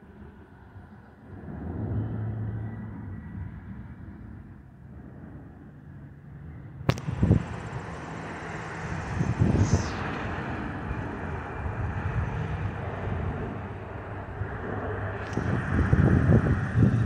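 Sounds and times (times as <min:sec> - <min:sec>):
jet roar overhead: 0:00.0 - 0:17.0
wind buffeting microphone: 0:00.0 - 0:17.0.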